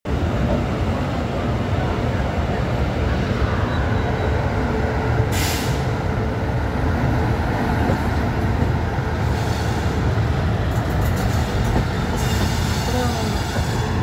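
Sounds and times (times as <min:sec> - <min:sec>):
train wheels rumbling on track: 0:00.1 - 0:14.0.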